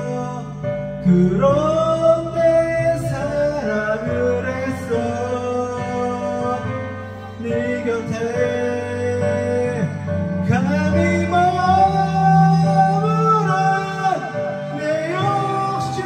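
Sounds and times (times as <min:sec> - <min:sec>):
karaoke backing track: 0:00.0 - 0:16.0
man singing a pop ballad: 0:00.0 - 0:16.0.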